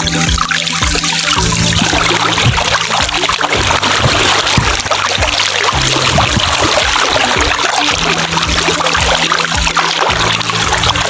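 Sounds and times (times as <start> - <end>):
sea water sloshing: 0.0 - 11.0
wading splashes: 0.0 - 11.0.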